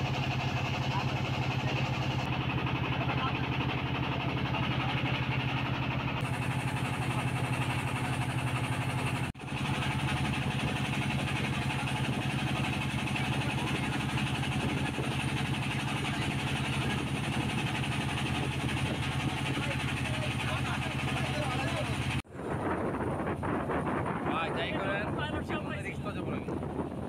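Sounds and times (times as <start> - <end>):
motorboat engine chugging: 0.0 - 27.0.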